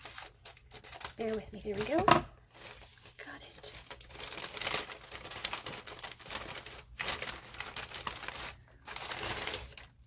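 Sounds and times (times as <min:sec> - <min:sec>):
paper packaging crinkling: 0:00.0 - 0:10.0.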